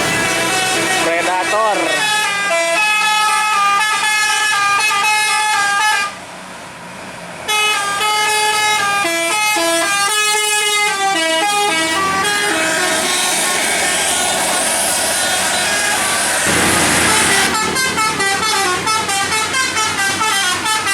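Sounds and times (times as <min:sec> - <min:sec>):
musical bus air horn playing: 0:00.0 - 0:06.2, 0:07.5 - 0:20.9.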